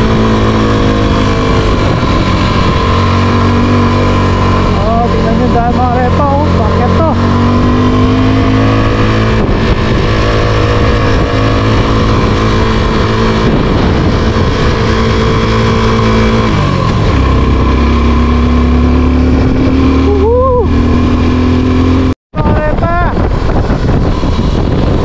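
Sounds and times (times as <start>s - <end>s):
short rising and falling cry: 0.0s - 22.2s.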